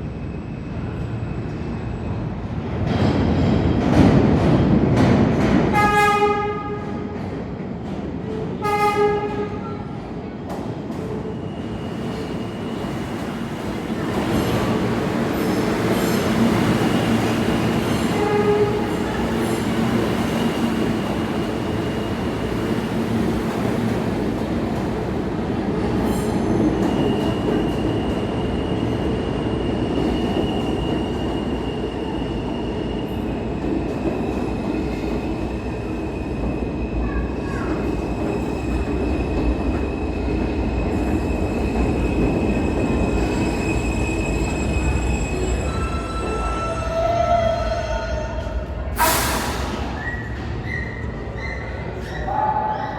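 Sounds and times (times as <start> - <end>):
subway train rumbling on rails: 0.0 - 52.9.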